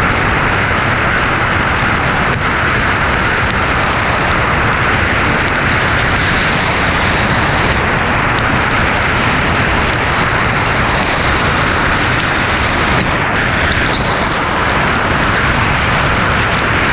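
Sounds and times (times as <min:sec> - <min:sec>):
car tyres on wet road: 0:00.0 - 0:16.9
heavy rain: 0:00.0 - 0:16.9.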